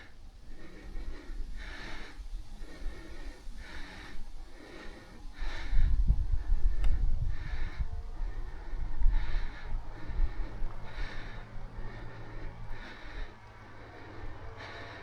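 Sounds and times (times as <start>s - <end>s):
heavy breathing: 0.0s - 15.0s
wind buffeting microphone: 0.0s - 15.0s.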